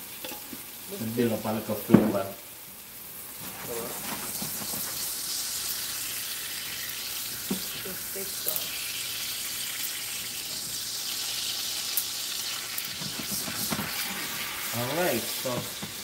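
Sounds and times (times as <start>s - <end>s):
steaks sizzling in a frying pan: 0.0s - 16.0s.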